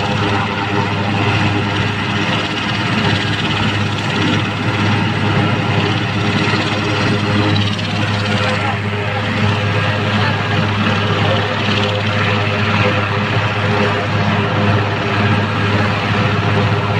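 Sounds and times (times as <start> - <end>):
helicopter turbine and rotor noise: 0.0 - 16.9.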